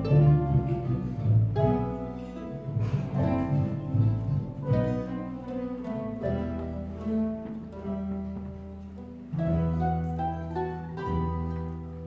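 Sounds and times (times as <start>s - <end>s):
held bass notes: 0.0s - 12.0s
mandolin ensemble playing: 0.0s - 12.0s.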